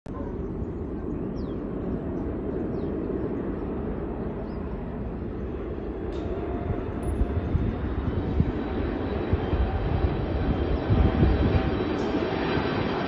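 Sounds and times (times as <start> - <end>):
distant jet engines rumbling: 0.1 - 13.0.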